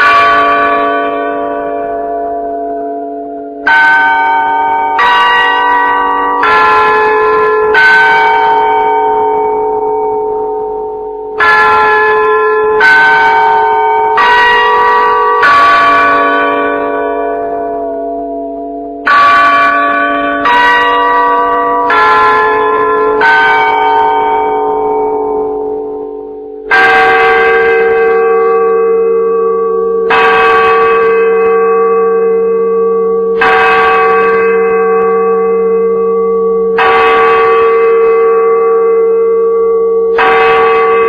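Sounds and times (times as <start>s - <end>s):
bells ringing on different pitches: 0.0s - 41.0s.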